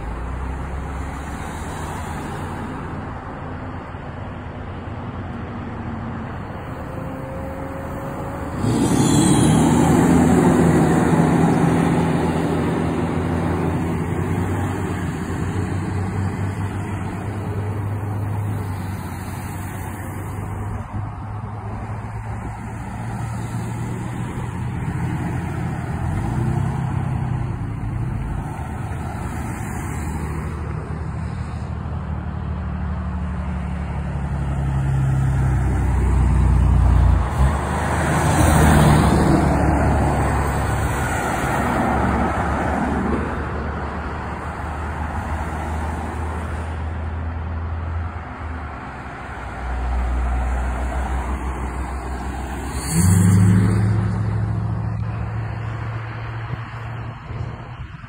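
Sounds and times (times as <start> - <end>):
vehicles driving past: 0.0 - 58.0.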